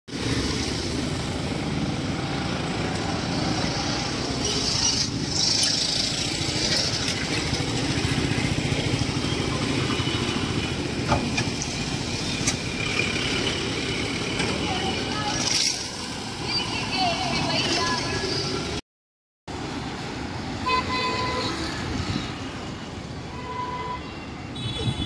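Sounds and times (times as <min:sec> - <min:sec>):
road traffic rumble: 0:00.1 - 0:18.8, 0:19.5 - 0:25.0.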